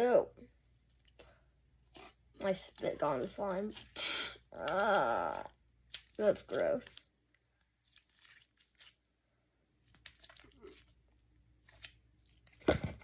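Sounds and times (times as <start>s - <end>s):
slime crackling and squelching: 0.8s - 13.0s.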